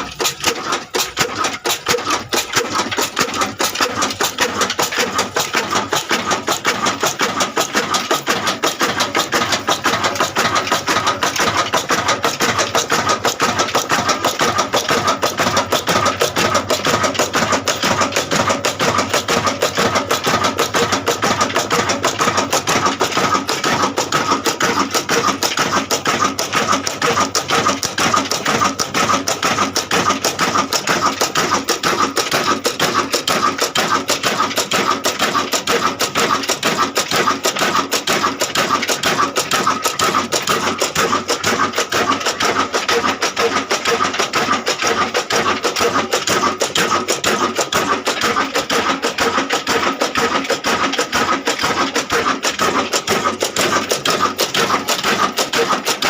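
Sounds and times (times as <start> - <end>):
diesel engine knocking: 0.0 - 56.0.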